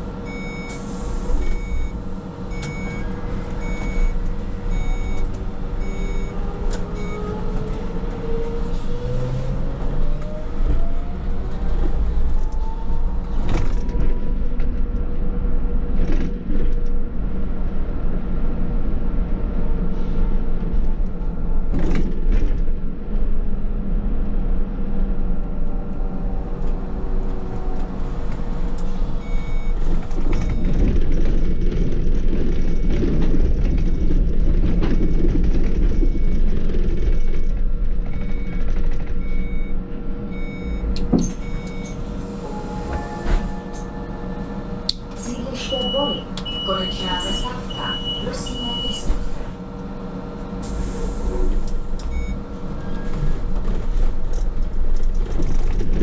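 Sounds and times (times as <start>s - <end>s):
trolleybus running rumble: 0.0s - 56.0s.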